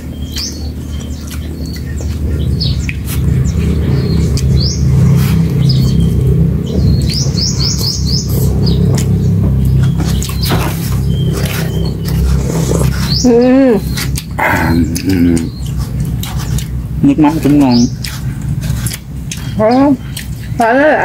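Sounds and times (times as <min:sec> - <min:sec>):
low droning hum: 0:00.0 - 0:21.0
small birds chirping: 0:00.0 - 0:21.0.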